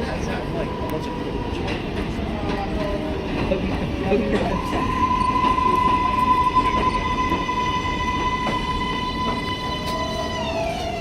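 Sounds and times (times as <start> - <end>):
subway train squeal: 0.0 - 11.0
train cars rumbling: 0.0 - 11.0.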